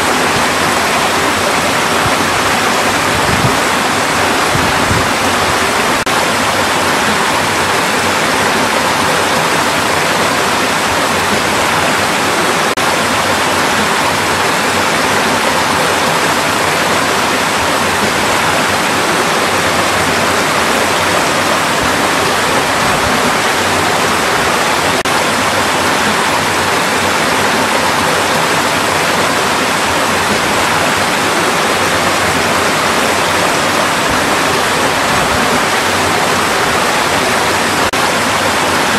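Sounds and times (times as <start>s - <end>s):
stream rushing water: 0.0s - 38.9s.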